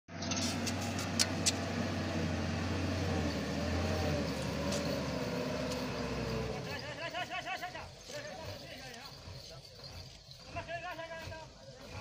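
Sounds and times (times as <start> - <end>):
diesel truck engine running: 0.1 - 12.0.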